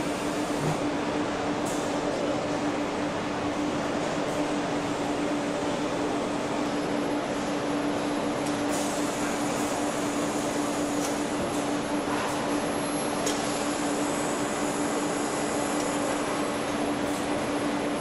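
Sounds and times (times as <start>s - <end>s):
factory machinery hum: 0.0s - 18.0s.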